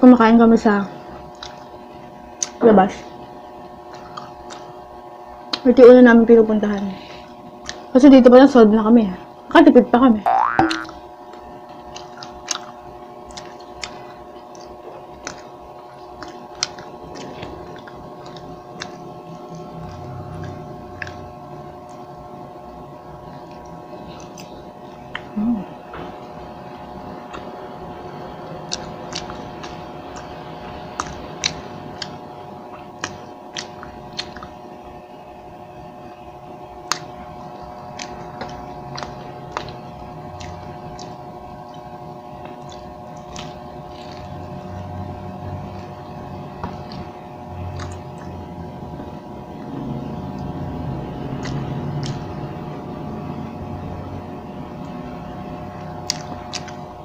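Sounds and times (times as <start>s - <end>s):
steady hum: 0.0s - 57.0s
chewing with wet mouth sounds: 0.6s - 5.9s, 6.6s - 8.2s, 10.7s - 57.0s.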